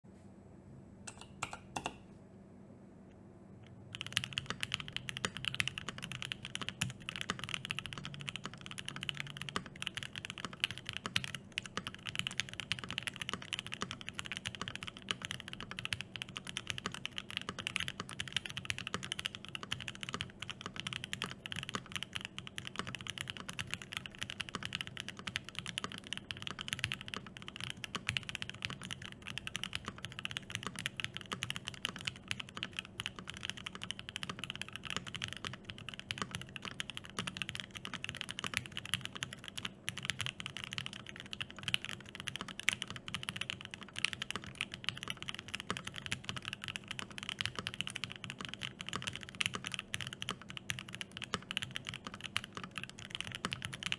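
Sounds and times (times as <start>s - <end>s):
mechanical keyboard typing: 3.9s - 53.9s.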